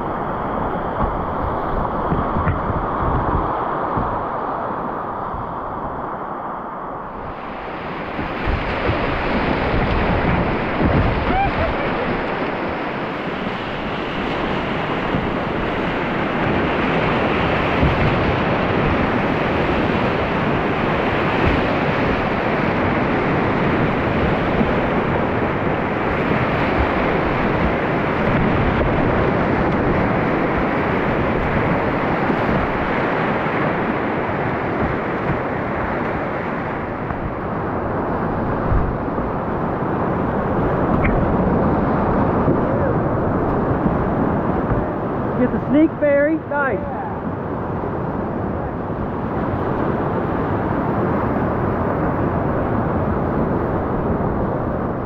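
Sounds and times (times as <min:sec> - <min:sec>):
whitewater rapids rushing: 0:00.0 - 0:55.0
wind buffeting microphone: 0:00.0 - 0:55.0.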